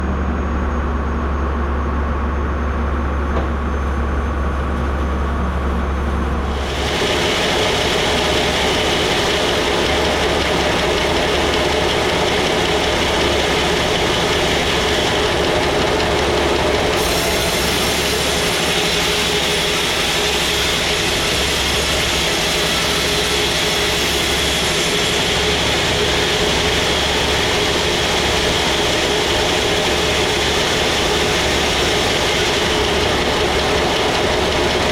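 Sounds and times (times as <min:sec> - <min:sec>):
saw cutting log: 0:06.6 - 0:34.9.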